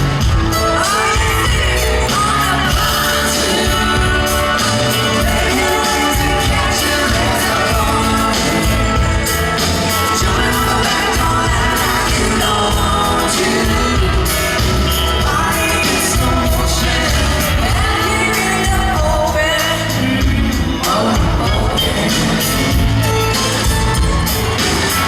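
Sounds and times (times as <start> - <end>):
lead singer singing: 0.0 - 25.0
live country band playing: 0.0 - 25.0.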